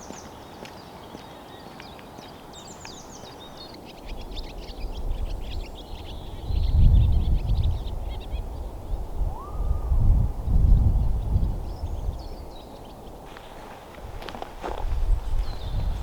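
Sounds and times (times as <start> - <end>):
songbirds trilling and chirping: 0.0 - 9.6, 10.9 - 16.0
wind buffeting microphone: 2.1 - 16.0.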